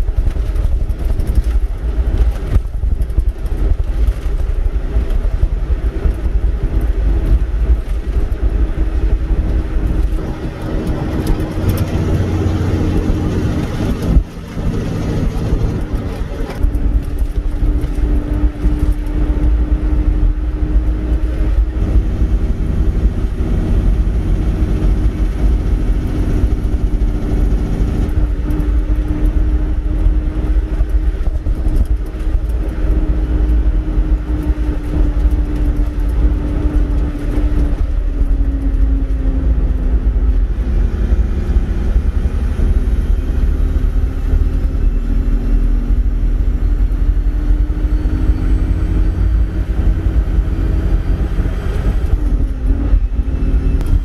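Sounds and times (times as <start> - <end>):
gravel road rumble: 0.0 - 54.0
truck engine: 0.0 - 54.0.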